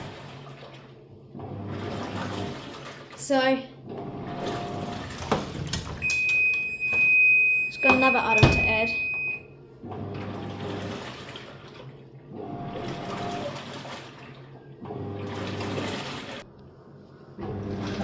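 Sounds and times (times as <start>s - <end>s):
washing machine churning water: 0.0s - 18.0s.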